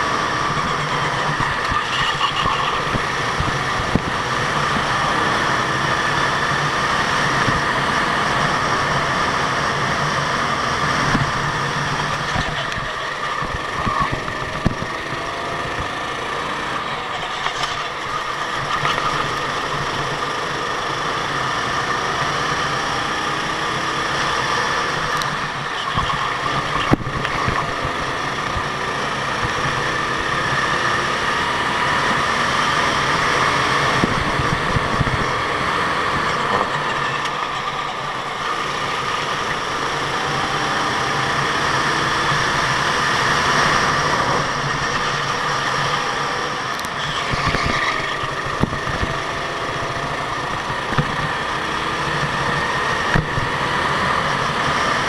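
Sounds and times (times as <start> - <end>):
go-kart engines revving: 0.0 - 55.0.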